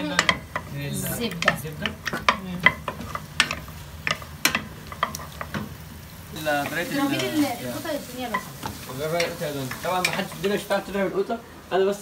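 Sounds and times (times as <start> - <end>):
butter sizzling: 0.0 - 12.0.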